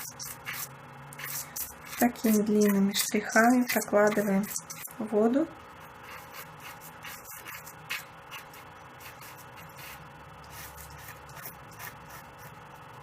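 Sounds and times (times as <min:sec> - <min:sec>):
pastel scratching on paper: 0:00.0 - 0:05.0, 0:05.9 - 0:12.6.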